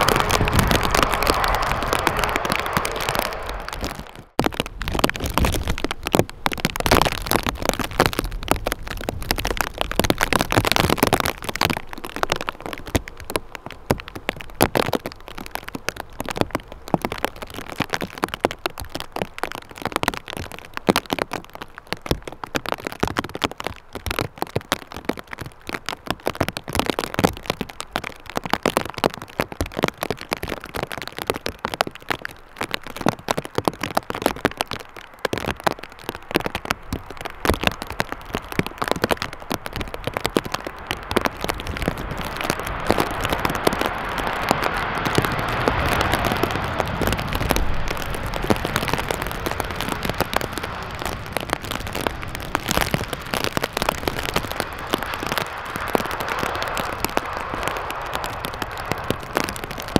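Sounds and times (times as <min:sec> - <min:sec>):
raindrops pattering: 0:00.0 - 0:59.9
wind rumble: 0:00.0 - 0:59.9.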